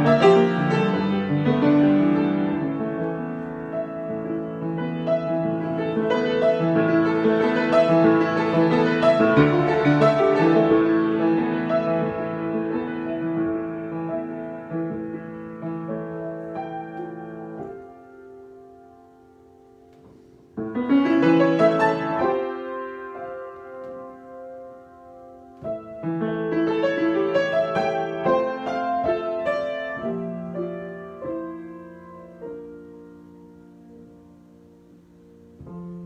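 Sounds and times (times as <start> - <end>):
solo piano chords: 0.0 - 36.0.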